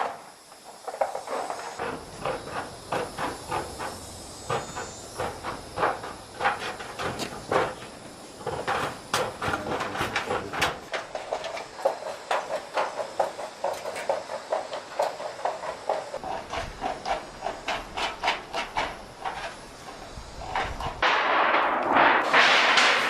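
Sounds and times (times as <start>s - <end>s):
loud steady hiss: 0.0s - 23.0s.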